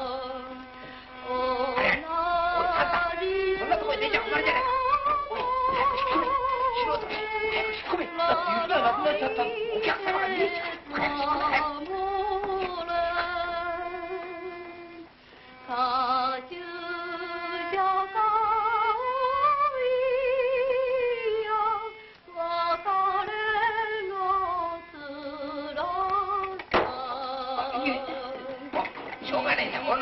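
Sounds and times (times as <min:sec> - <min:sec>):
woman singing slow song: 0:00.0 - 0:15.0, 0:15.6 - 0:28.7.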